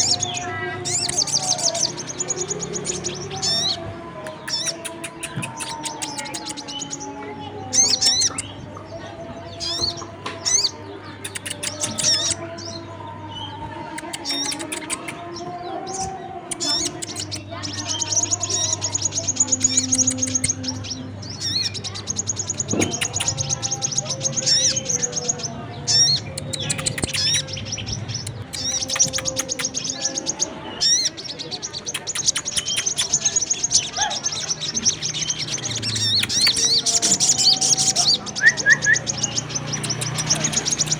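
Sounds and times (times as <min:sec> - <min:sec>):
rapid high bird chirps: 0:00.0 - 0:08.9, 0:09.5 - 0:40.9.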